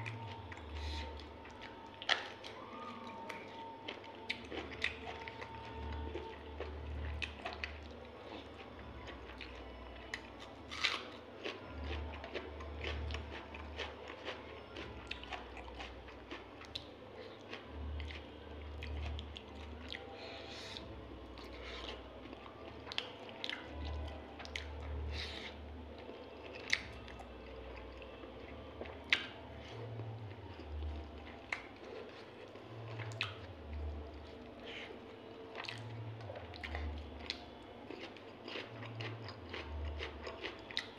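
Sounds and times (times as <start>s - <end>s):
man chewing food: 0.0s - 40.9s.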